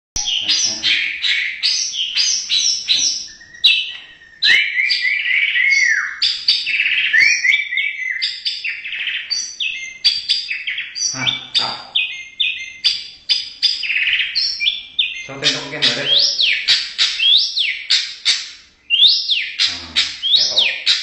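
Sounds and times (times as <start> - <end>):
bird singing whistled notes: 0.2 - 21.0
repeated arching bird whistles: 0.2 - 21.0.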